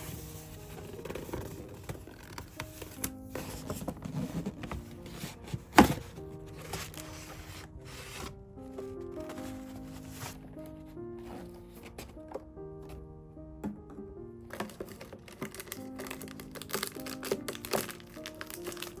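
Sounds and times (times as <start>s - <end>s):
gift parcel being unpacked: 0.0s - 13.0s, 14.4s - 19.0s
background music: 0.0s - 19.0s.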